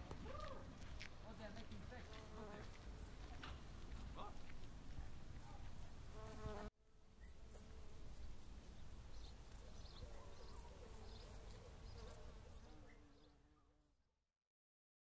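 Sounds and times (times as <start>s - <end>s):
insects chirping: 0.6s - 13.3s.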